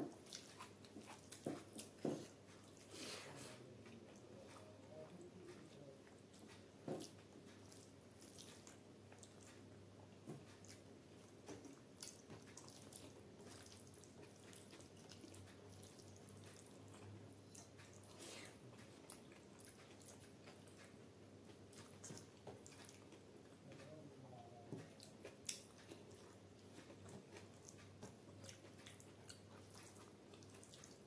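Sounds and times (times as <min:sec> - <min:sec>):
soft chewing: 0:00.0 - 0:31.0.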